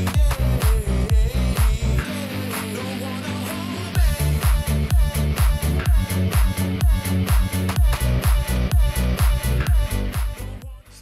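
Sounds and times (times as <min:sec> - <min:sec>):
heavy kick drum: 0:00.0 - 0:02.0, 0:04.0 - 0:10.9
dance music: 0:00.0 - 0:11.0.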